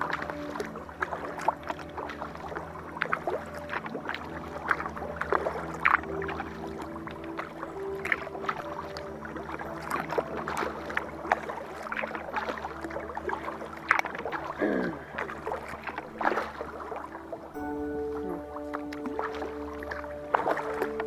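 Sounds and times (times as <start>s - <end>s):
kayak paddle splashing: 0.0s - 21.0s
steady wash of water: 0.0s - 21.0s.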